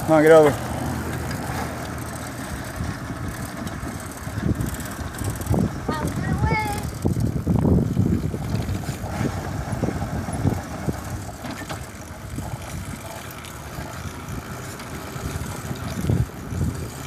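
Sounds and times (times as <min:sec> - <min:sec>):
bicycle riding: 0:00.0 - 0:17.0
wind rumbling on microphone: 0:00.0 - 0:17.0.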